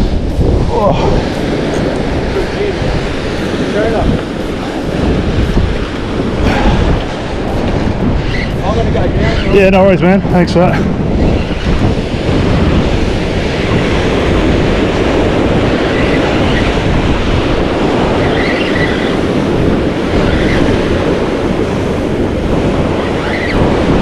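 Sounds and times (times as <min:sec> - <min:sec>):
ocean waves breaking on rocks: 0:00.0 - 0:24.0
wind buffeting microphone: 0:00.0 - 0:24.0.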